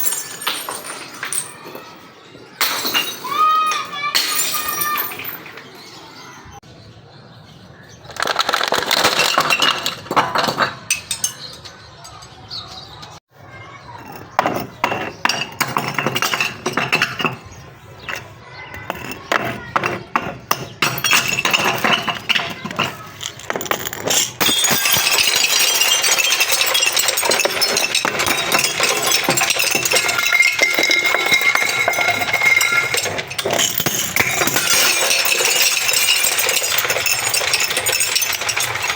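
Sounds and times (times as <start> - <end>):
glass shards clinking: 0.0 - 2.0, 2.6 - 5.7, 8.3 - 12.6, 14.1 - 38.9
glass bottles breaking: 0.0 - 5.8, 8.2 - 11.9, 14.1 - 38.9.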